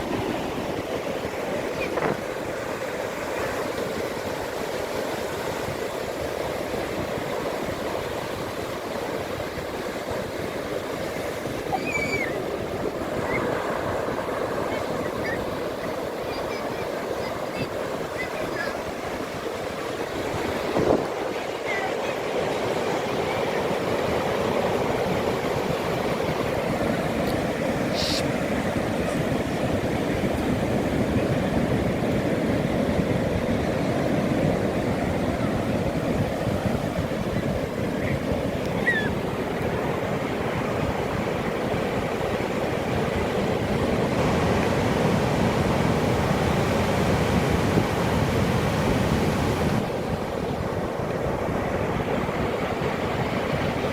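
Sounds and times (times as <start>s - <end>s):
sea waves washing in: 0.0s - 53.9s.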